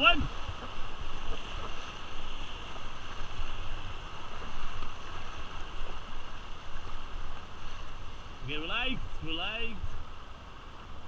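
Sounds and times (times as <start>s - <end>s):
whitewater rapids rushing: 0.0s - 11.0s
wind buffeting microphone: 0.0s - 11.0s.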